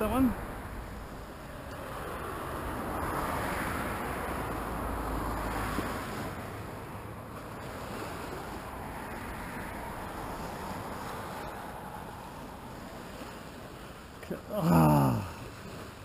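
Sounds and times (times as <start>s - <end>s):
passing car: 0.0s - 13.6s.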